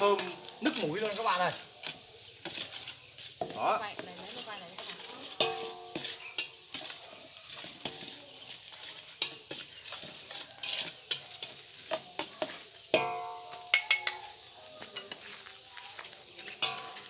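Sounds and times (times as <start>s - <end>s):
utensil scraping and clanking metal: 0.0s - 14.4s, 16.4s - 17.0s
garlic sizzling in metal basin: 0.0s - 17.0s.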